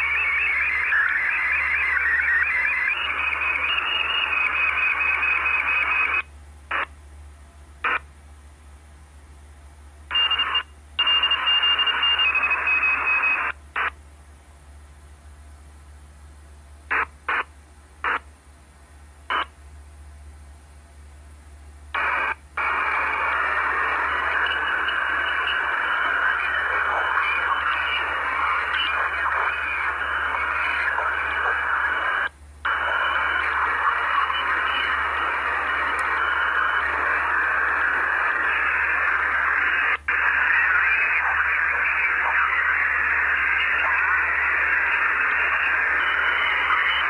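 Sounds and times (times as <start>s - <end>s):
radio static hiss: 0.0s - 6.9s, 7.8s - 8.1s, 10.1s - 14.0s, 16.9s - 18.3s, 19.2s - 19.6s, 21.9s - 47.0s
low hum: 0.0s - 47.0s.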